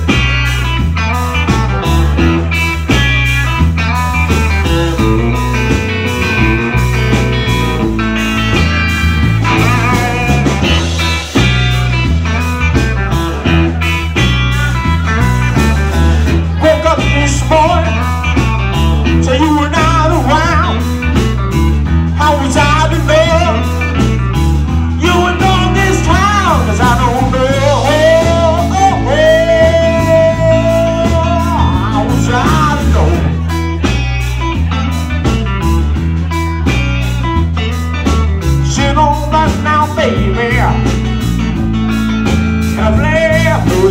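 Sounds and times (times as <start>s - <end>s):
blues band playing: 0.0s - 43.9s
electric guitar lead: 0.0s - 43.9s.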